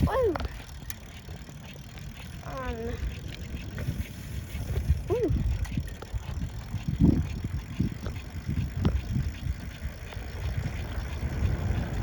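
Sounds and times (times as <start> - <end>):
bicycle knocks and rattles: 0.0 - 12.0
wind rumbling on microphone: 0.0 - 12.0.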